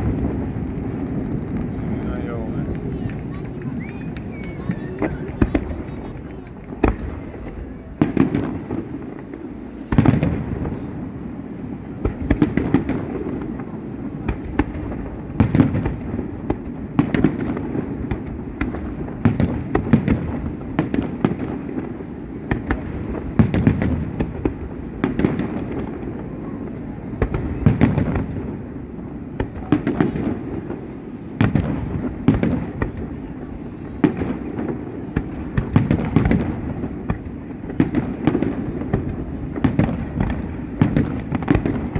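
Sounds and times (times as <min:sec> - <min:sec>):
fireworks bangs: 0:00.0 - 0:41.9
low rumble of explosions: 0:00.0 - 0:41.9.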